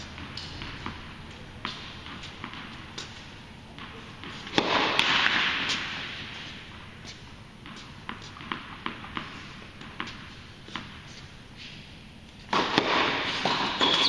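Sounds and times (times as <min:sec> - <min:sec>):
tennis balls struck and bouncing: 0:00.0 - 0:11.2, 0:12.4 - 0:14.0.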